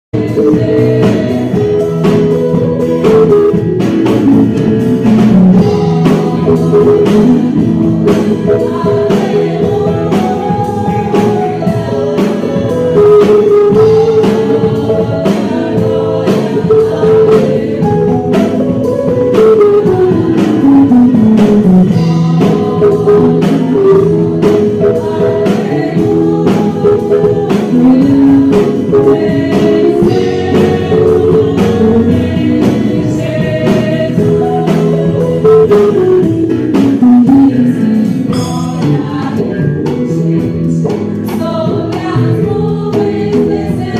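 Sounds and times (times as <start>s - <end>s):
gospel band accompaniment: 0.1s - 43.9s
electric guitar lead melody: 0.2s - 38.4s.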